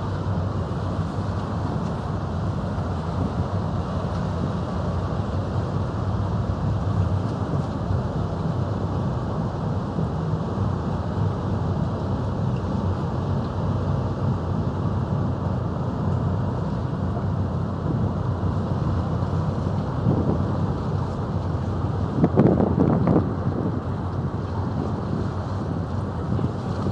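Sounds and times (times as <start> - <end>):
boat diesel engine rumbling: 0.0 - 26.9.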